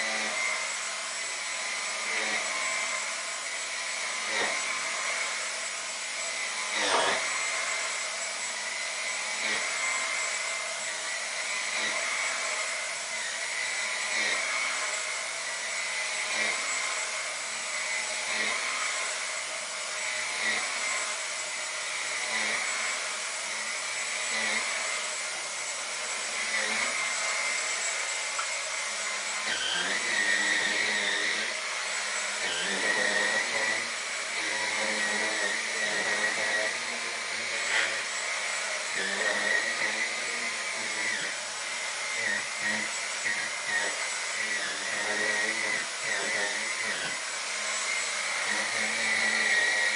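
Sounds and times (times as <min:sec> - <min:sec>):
cordless vacuum cleaner whining: 0:00.0 - 0:49.9.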